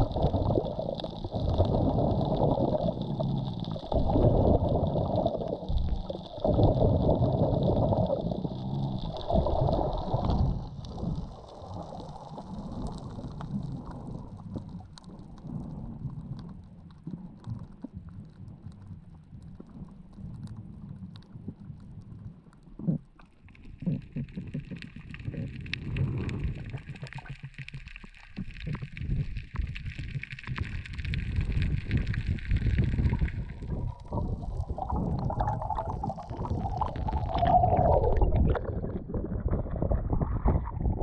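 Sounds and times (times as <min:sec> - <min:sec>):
faint underwater clicks: 0:00.0 - 0:41.0
muffled underwater rushing: 0:00.0 - 0:41.0.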